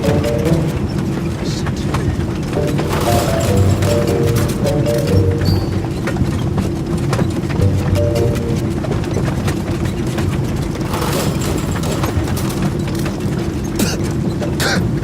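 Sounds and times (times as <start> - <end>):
rapid rattling and clattering: 0.0 - 15.0.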